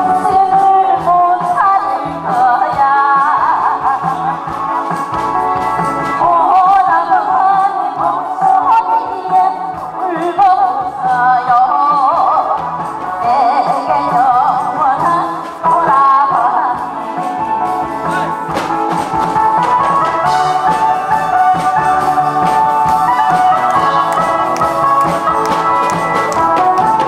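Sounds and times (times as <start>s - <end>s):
woman singing with vibrato: 0.0s - 4.5s, 6.2s - 17.6s, 20.2s - 27.0s
instrumental music with steady beat: 0.0s - 27.0s.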